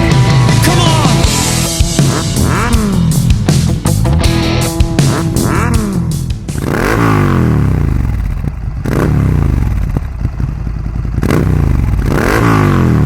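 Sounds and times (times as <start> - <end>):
motorcycle engine throttle blips: 1.4 - 13.0.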